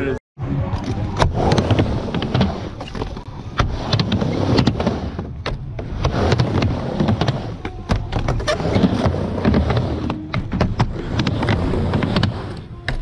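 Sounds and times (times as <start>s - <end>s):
skateboard wheels rolling on ramp: 0.7s - 13.0s.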